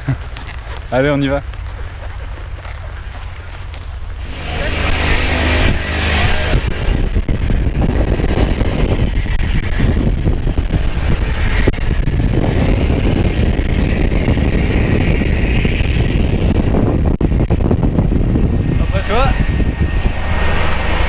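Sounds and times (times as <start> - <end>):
propeller plane engine running: 0.0 - 21.0
wind buffeting on microphone: 0.0 - 21.0.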